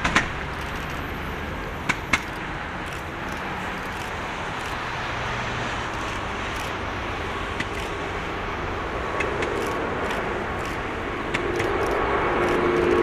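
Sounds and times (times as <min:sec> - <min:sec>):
droning engine tone: 0:00.0 - 0:13.0
jet engine roar: 0:00.0 - 0:13.0.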